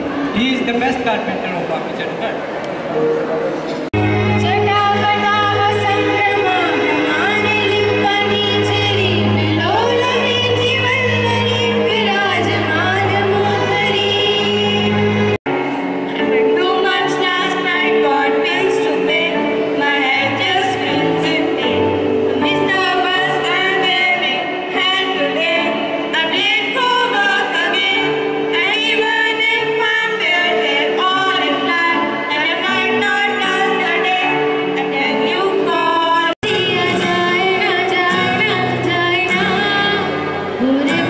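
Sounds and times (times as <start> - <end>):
instrumental backing music: 0.0 - 41.0
girls singing into microphones: 4.0 - 15.4, 16.0 - 41.0
girl singing with acoustic guitar: 4.3 - 15.3, 16.1 - 41.0.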